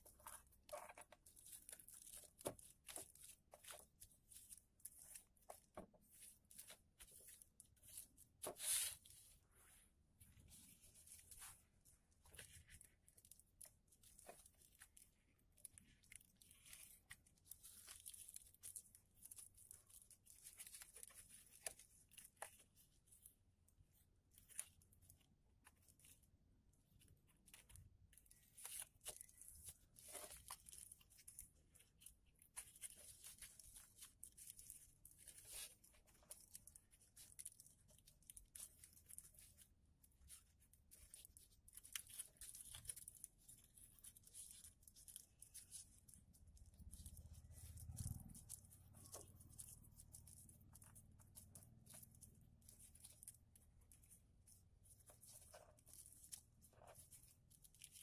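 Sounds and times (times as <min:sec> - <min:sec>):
paper rustling and crinkling: 0:00.0 - 0:58.0.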